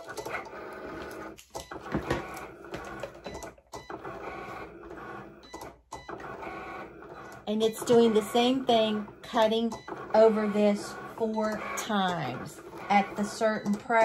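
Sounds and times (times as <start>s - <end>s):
cutting machine motors whirring: 0.0s - 14.0s.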